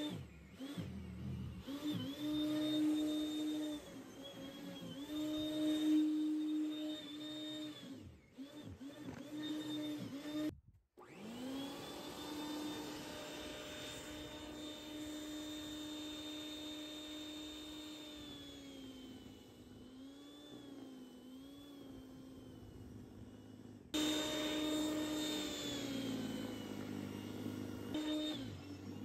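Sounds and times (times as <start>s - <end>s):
electric snow thrower whining: 0.0s - 29.0s.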